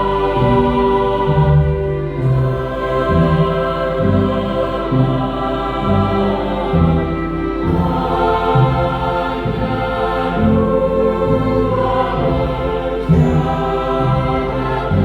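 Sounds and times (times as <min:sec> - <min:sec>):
mixed choir singing carols: 0:00.0 - 0:15.0.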